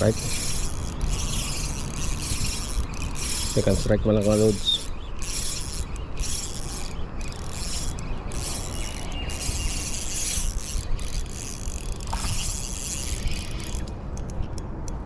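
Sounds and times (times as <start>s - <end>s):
fishing reel gears whirring: 0.0s - 14.6s.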